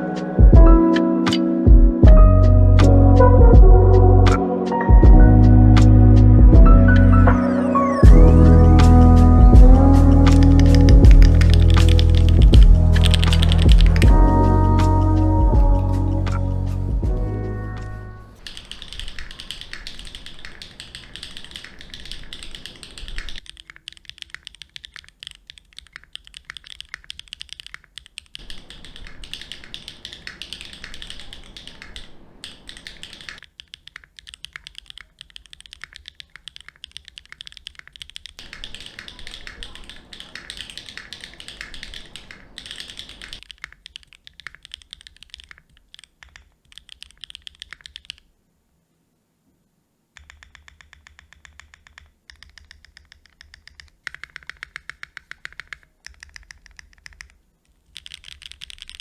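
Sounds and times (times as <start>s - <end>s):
mechanical keyboard typing: 7.3s - 48.2s, 50.2s - 59.0s.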